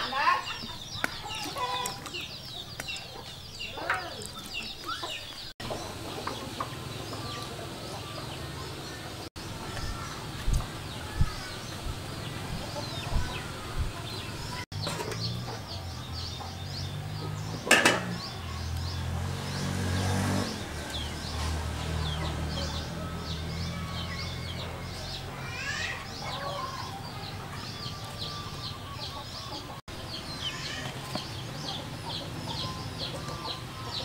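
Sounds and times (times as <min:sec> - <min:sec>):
chickens clucking: 0:00.0 - 0:19.3, 0:20.5 - 0:34.0
small birds chirping: 0:00.0 - 0:34.0.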